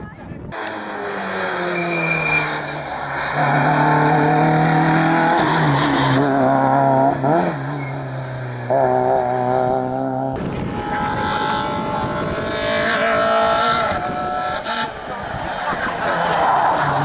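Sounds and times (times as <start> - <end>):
rally car engine at high revs: 0.5 - 17.0.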